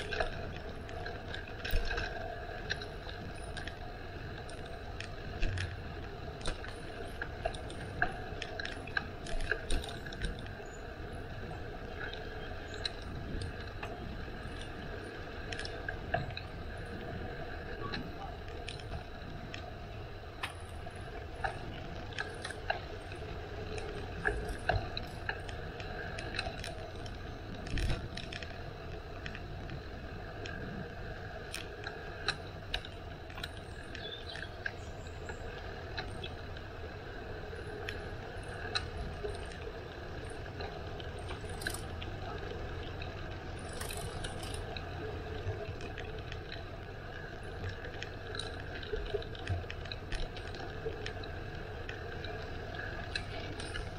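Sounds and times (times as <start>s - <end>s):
bicycle parts clicking and rattling: 0.0s - 17.3s, 17.9s - 53.9s
steady low rumble: 0.0s - 53.9s.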